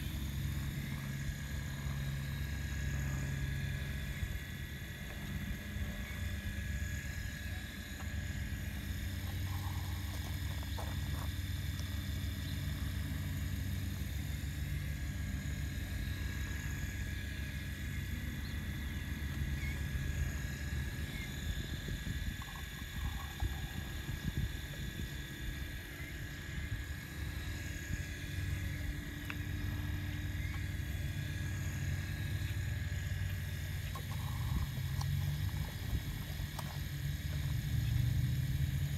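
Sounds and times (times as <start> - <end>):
high motor whine: 0.0 - 38.9
toy excavator pump motor rumbling: 0.0 - 38.9.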